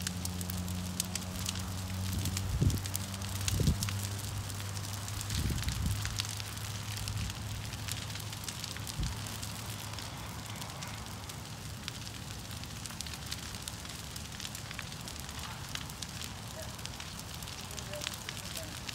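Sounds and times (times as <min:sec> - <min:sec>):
burning wood crackling and popping: 0:00.0 - 0:18.9
fire rushing noise: 0:00.0 - 0:18.9.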